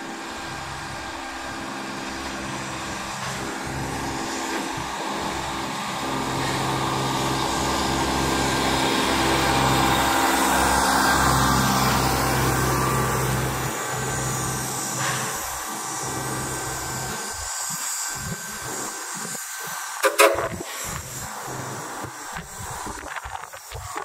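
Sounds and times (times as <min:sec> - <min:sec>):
low engine hum: 0:00.0 - 0:19.3
steam hissing: 0:00.0 - 0:24.0.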